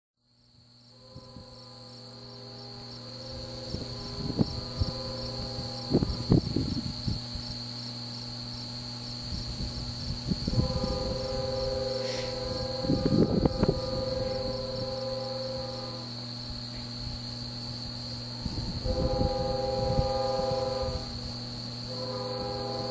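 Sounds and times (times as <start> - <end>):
insects chirring: 0.2 - 22.9
distant locomotive air horn: 0.6 - 8.1, 8.7 - 22.9
wind buffeting microphone: 1.0 - 7.7, 9.1 - 22.9.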